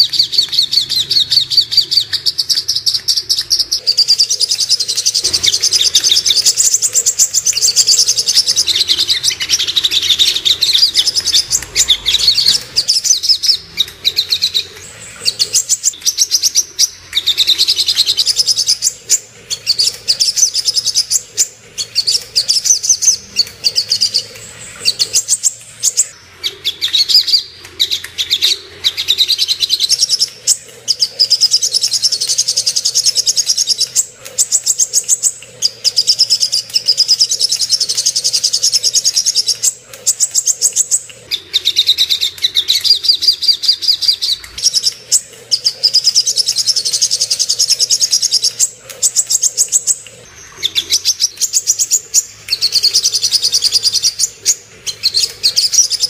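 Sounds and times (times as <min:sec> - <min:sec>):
bird singing trilled phrases: 0:00.0 - 0:56.0.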